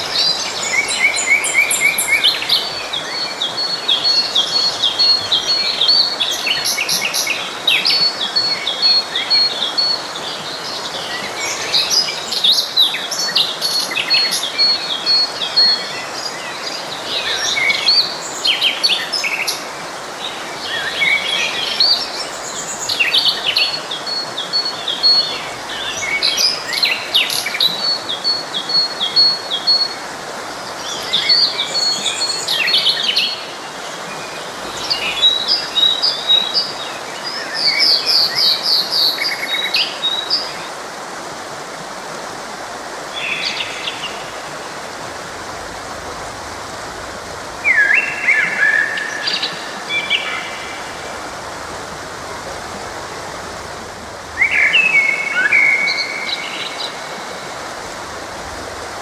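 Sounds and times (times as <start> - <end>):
songbirds singing and chirping: 0.0 - 40.8, 43.0 - 58.9
forest stream rushing: 0.0 - 59.0.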